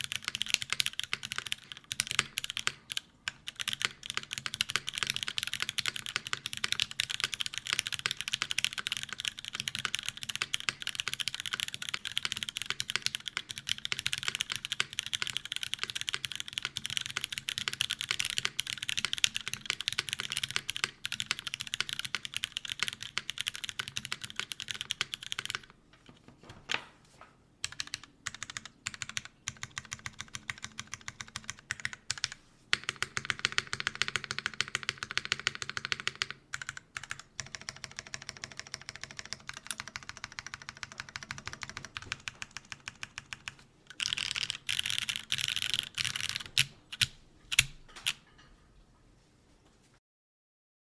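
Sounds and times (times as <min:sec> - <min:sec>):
mechanical keyboard typing: 0:00.0 - 0:25.8, 0:27.6 - 0:48.2.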